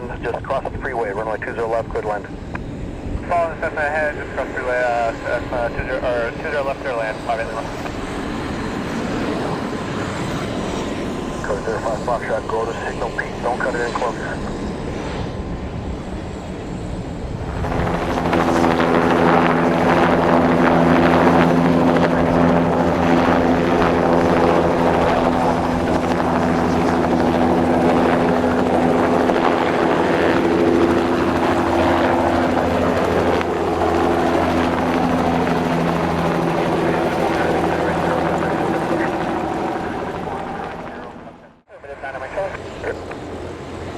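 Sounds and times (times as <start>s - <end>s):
helicopter turbine and rotor humming: 0.0s - 43.9s.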